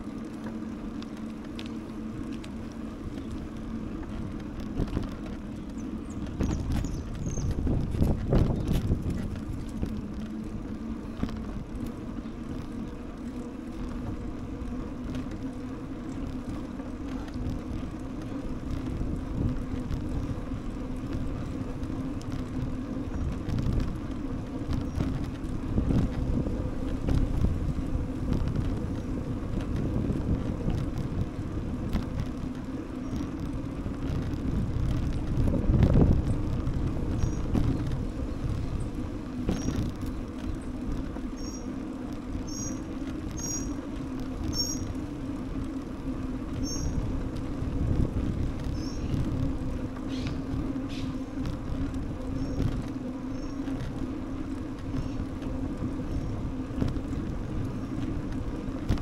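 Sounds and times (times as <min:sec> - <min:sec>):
bicycle tyres rumbling on pavement: 0:00.0 - 0:59.0
bike clicks and rattles: 0:00.0 - 0:59.0
steady low hum: 0:00.0 - 0:59.0
wind on microphone: 0:01.2 - 0:59.0.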